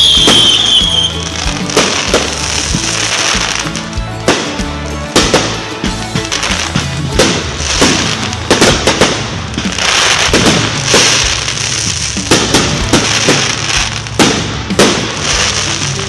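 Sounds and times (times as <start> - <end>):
fireworks bangs: 0.0 - 16.0
fireworks crackling hiss: 0.0 - 16.0.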